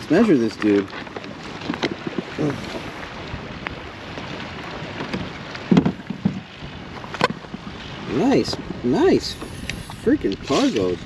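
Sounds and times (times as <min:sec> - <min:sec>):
water lapping against kayak hull: 0:00.0 - 0:11.0
wind buffeting microphone: 0:00.0 - 0:11.0.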